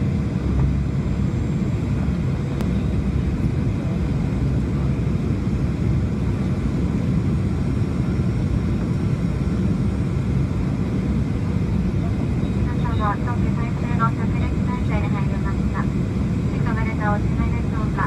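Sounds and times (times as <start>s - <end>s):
airliner engine rumble: 0.0s - 18.0s.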